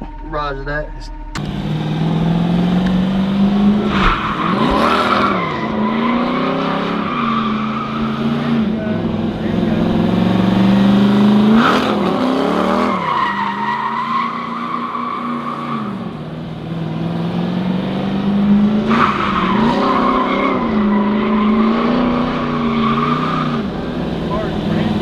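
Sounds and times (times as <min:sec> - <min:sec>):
tire squeal: 0:00.0 - 0:08.7, 0:09.8 - 0:16.4, 0:18.8 - 0:25.0
truck engine revving: 0:00.0 - 0:25.0.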